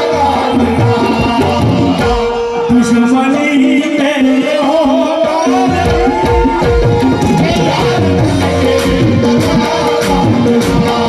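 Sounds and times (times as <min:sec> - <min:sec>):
tabla drumming: 0:00.0 - 0:11.0.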